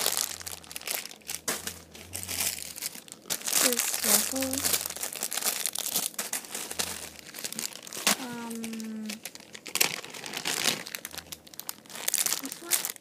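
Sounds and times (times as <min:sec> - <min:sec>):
plastic crinkling and rustling: 0:00.0 - 0:13.0.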